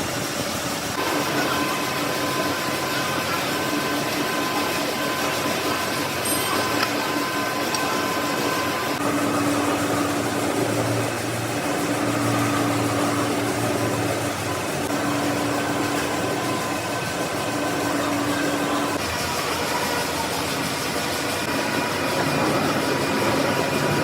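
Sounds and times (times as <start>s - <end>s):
low mechanical whine: 0.0s - 24.0s
machine tool humming: 0.1s - 24.0s.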